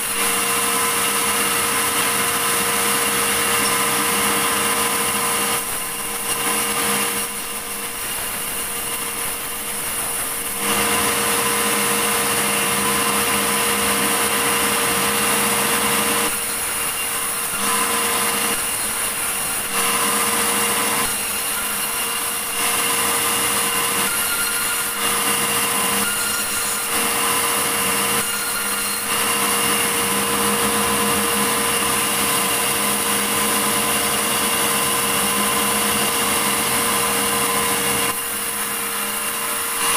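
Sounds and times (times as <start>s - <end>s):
sawmill sawing log: 0.0s - 39.9s.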